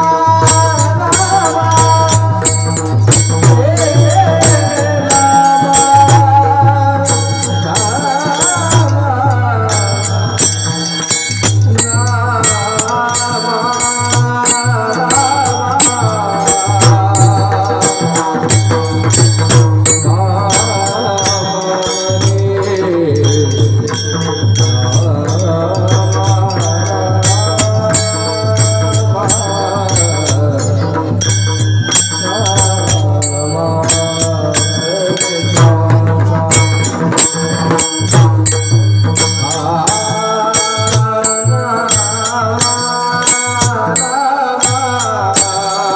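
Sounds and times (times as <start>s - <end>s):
hand cymbals ringing: 0.0s - 45.9s
person singing: 0.0s - 45.9s.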